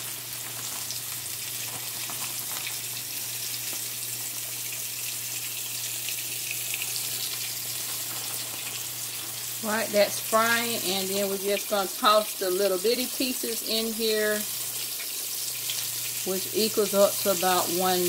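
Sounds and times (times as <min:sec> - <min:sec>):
fish frying in hot grease: 0:00.0 - 0:18.0.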